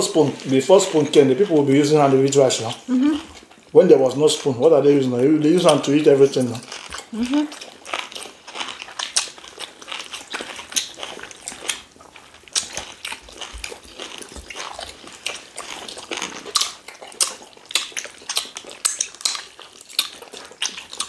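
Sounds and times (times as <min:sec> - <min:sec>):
people chewing and lip-smacking: 0:00.0 - 0:21.0.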